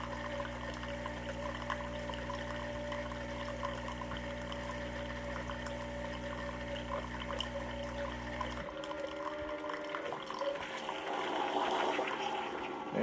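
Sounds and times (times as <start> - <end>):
coffee splashing into cup: 0.0 - 12.8
coffee maker pump humming: 0.0 - 13.0.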